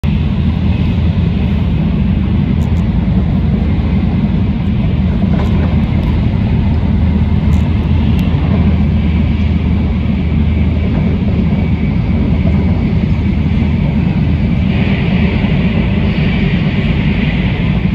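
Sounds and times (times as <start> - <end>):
train rumbling inside cabin: 0.0 - 17.9.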